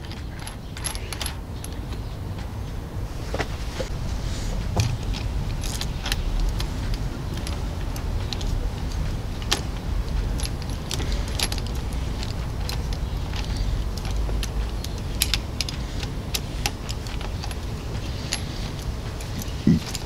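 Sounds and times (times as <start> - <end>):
keys rattling together: 0.0 - 2.1, 4.7 - 20.0
steady low rumble: 0.0 - 20.0.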